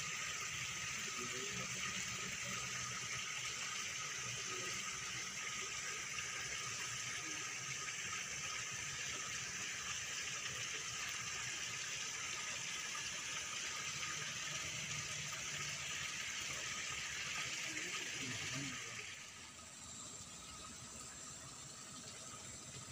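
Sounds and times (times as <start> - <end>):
water splashing from spray jets: 0.0 - 22.9.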